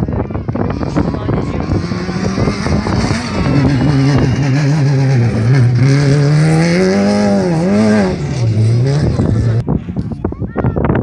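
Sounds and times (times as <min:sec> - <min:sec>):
buggy engine revving hard: 0:00.0 - 0:09.6.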